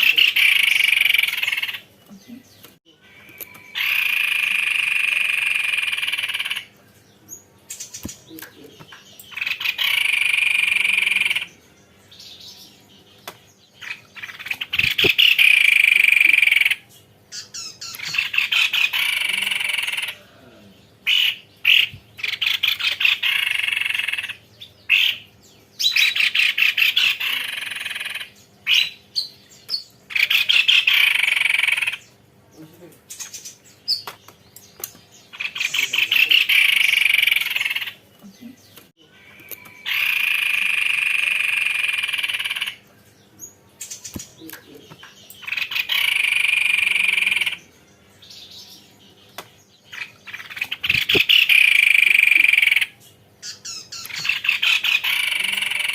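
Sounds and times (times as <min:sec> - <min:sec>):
bird singing rolling trills: 0:00.0 - 0:55.9.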